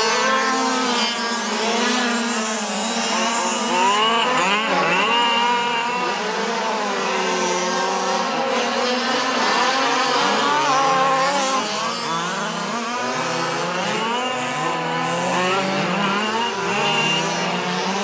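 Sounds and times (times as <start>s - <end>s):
small two-stroke engines revving: 0.0s - 18.0s.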